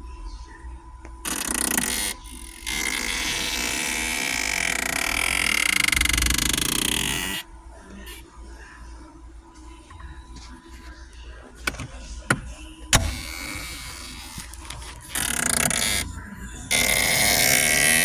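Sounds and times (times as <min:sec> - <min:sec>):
dashboard heater noise: 0:01.0 - 0:18.0.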